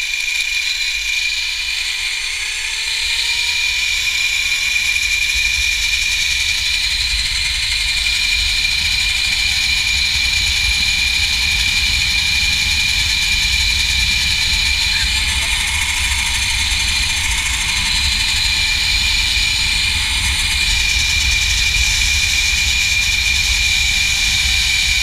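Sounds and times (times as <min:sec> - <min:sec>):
zipline pulleys whining on cable: 0:00.0 - 0:25.0.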